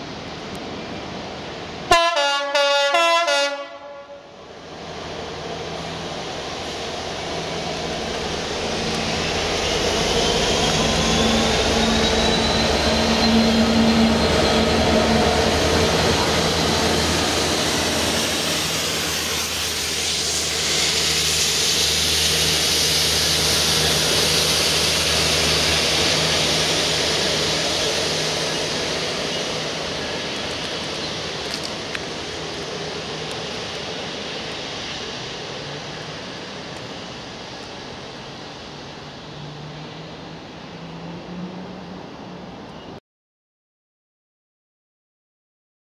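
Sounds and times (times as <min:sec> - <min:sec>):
train wheels rumbling on rail: 0:00.0 - 0:42.8
diesel locomotive engines droning: 0:00.0 - 0:43.0.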